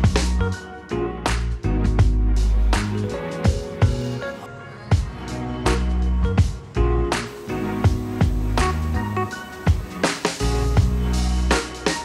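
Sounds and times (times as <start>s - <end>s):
background music with drums and bass: 0.0s - 12.0s.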